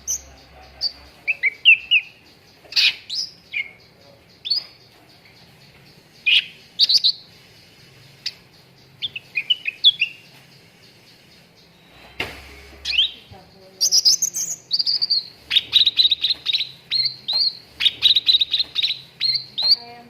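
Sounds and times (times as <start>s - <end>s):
bird chirping and whistling: 0.0s - 4.8s, 6.2s - 7.3s, 8.2s - 10.3s, 10.9s - 20.0s.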